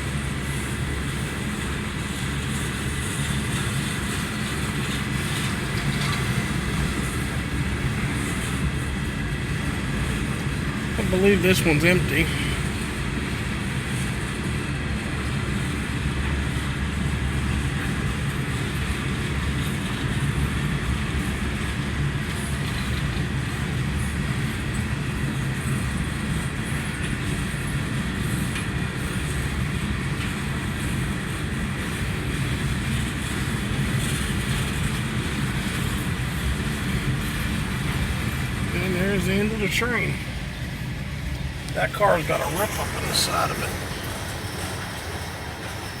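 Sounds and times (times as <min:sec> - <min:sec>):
train cars rolling on rails: 0:00.0 - 0:46.0.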